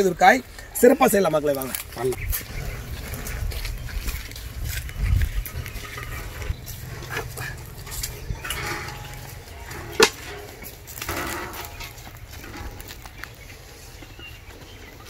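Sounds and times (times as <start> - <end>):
wind rumbling on microphone: 1.8 - 15.0.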